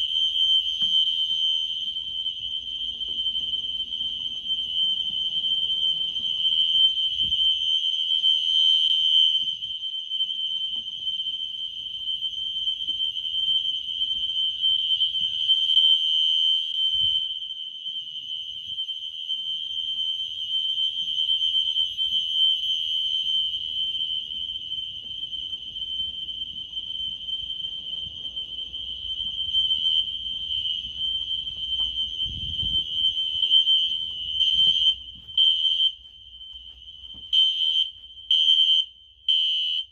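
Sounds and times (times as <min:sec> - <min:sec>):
fire alarm horn steady tone: 0:00.0 - 0:39.9.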